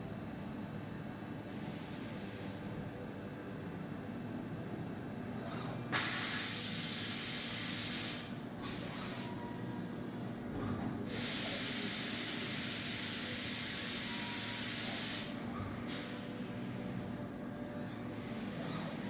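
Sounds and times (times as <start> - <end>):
machining centre humming: 0.0 - 19.0.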